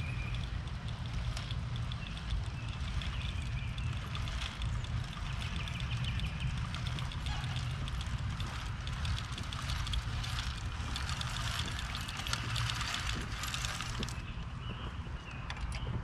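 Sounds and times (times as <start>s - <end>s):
push seeder rattling clicks: 0.0s - 14.4s
low rumble: 0.0s - 16.0s.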